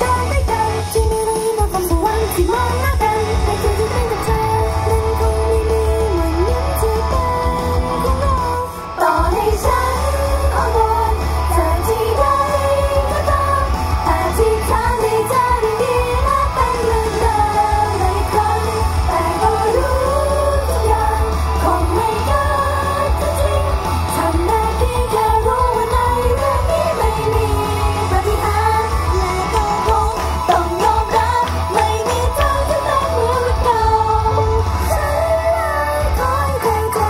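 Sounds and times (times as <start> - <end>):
backing track with heavy bass: 0.0 - 37.0
women singing pop song: 0.0 - 37.0.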